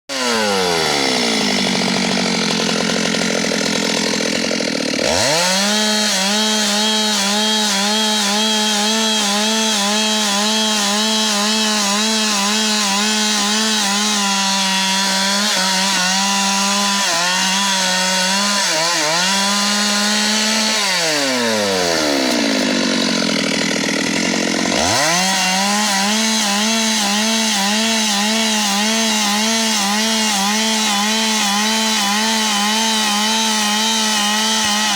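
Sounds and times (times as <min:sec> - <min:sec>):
chainsaw cutting a tree: 0:00.1 - 0:34.9.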